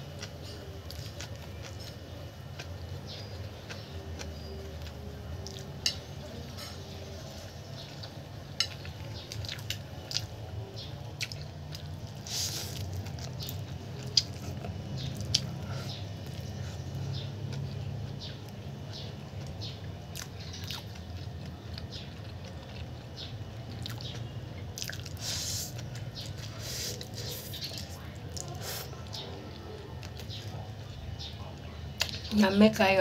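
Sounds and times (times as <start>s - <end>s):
person chewing noodles: 0.0s - 6.1s, 7.3s - 30.5s
steady low hum: 0.0s - 33.0s.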